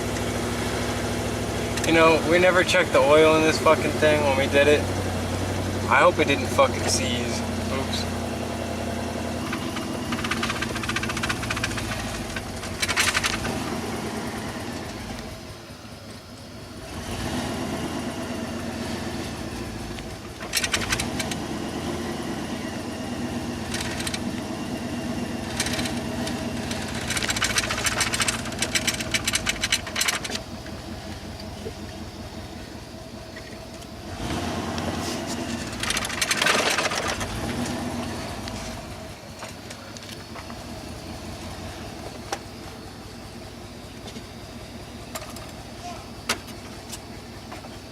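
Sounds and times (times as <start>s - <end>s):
vehicle engine driving: 0.0s - 47.9s.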